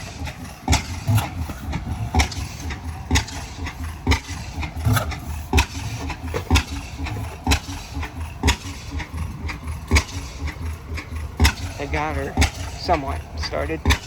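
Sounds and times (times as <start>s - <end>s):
heavy exhaust thumps: 0.0s - 14.0s
large stationary engine firing: 0.0s - 14.0s.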